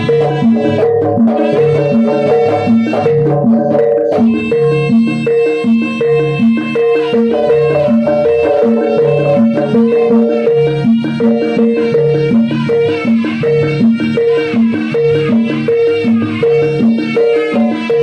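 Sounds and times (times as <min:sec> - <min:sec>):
gamelan pitched percussion: 0:00.0 - 0:18.0.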